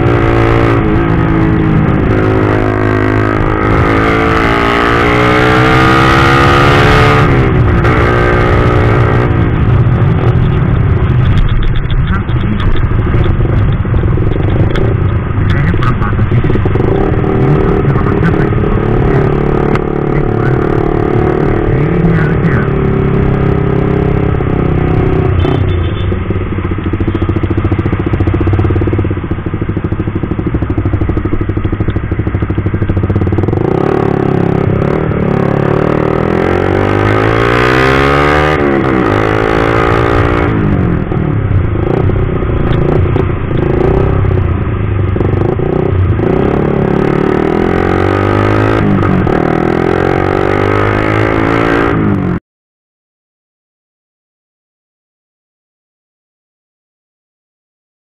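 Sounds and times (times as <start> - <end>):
wind rush: 0.0 - 50.5
motorcycle engine revving: 0.0 - 52.4.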